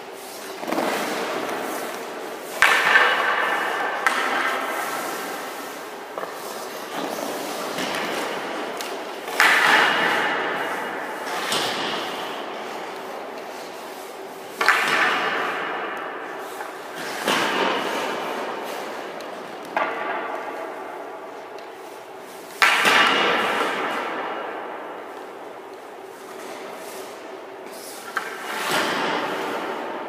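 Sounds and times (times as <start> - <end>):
hockey pads hitting ice: 0.4 - 21.2, 22.5 - 25.2, 28.0 - 30.0.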